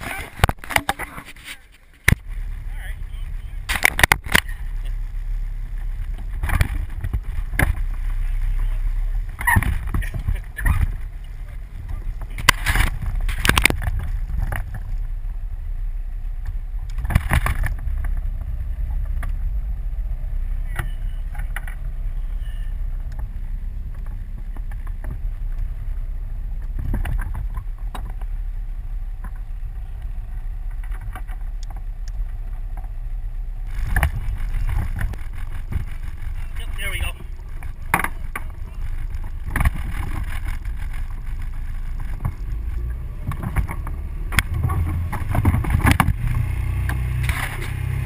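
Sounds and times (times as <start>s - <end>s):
boat engine low rumble: 0.0s - 48.0s.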